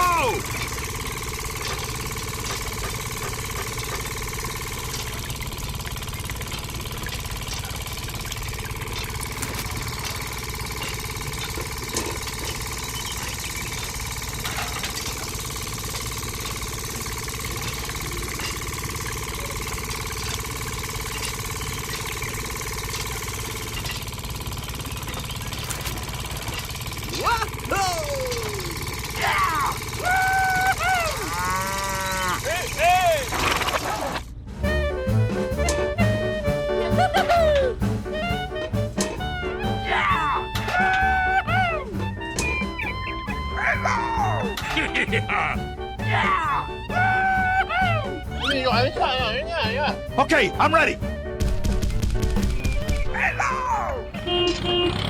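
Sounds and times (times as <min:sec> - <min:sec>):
small motor whining: 0:00.0 - 0:37.2, 0:37.8 - 0:50.6, 0:54.0 - 0:55.0.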